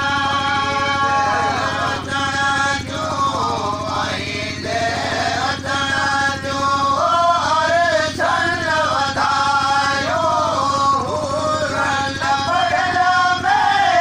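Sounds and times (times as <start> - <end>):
men singing a chant: 0.0 - 14.0.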